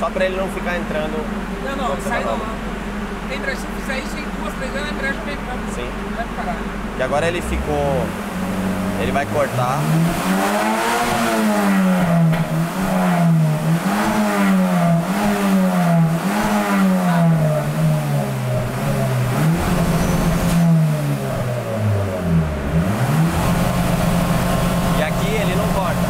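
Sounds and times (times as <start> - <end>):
car engine revving at limiter: 0.0 - 26.0.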